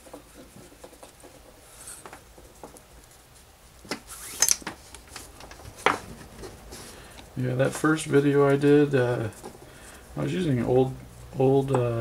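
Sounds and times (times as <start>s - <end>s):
cord rubbing and rustling: 0.0s - 12.0s.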